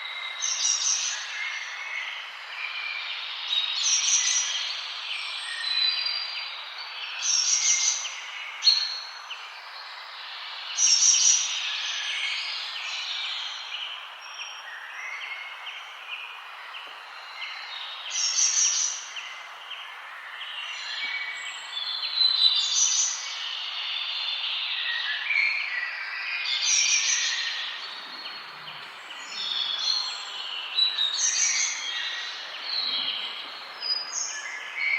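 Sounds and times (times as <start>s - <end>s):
forest birds singing: 0.0s - 34.9s
steady background hiss: 0.0s - 34.9s.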